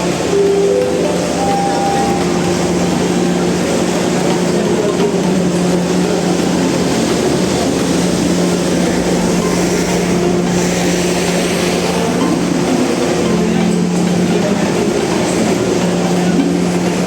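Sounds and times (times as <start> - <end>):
diesel train engine hum: 0.0 - 17.0.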